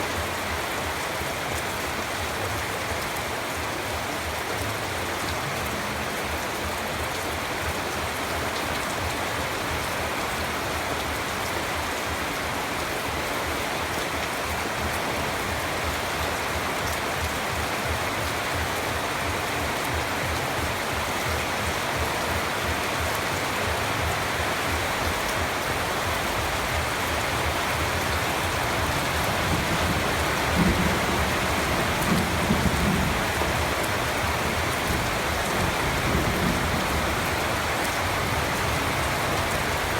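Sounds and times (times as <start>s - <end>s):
dense rain pattering: 0.0s - 39.9s.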